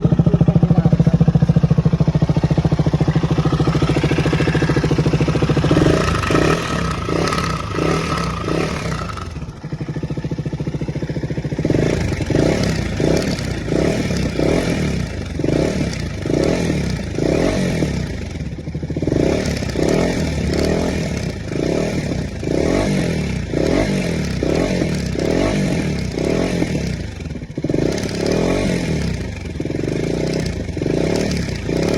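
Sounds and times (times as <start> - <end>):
motorcycle engine clattering: 0.0 - 31.9.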